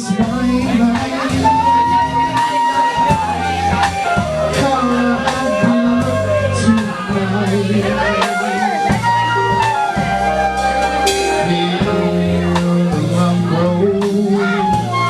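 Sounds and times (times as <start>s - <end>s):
drum kit beat: 0.0s - 15.0s
gliding lead melody: 0.0s - 15.0s
held bass notes: 0.0s - 15.0s.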